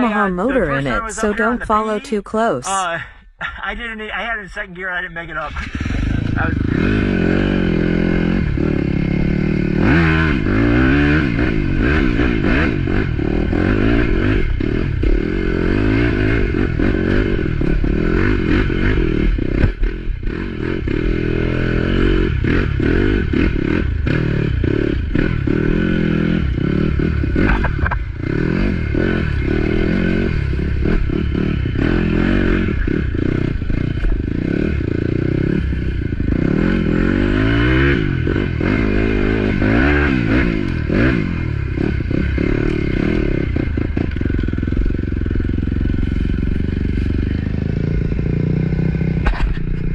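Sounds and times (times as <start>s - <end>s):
motorcycle engine revving: 5.3s - 49.9s.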